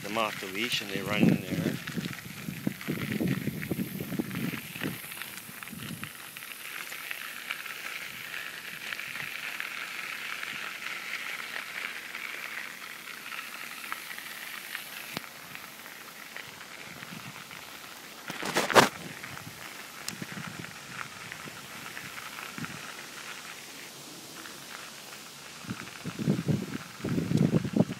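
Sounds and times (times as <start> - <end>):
bicycle tyres rolling on path: 0.0 - 27.9.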